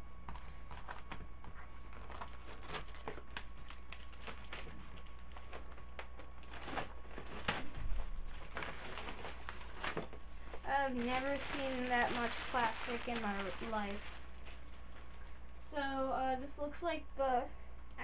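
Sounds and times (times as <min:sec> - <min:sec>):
plastic wrap crinkling: 0:00.0 - 0:15.6.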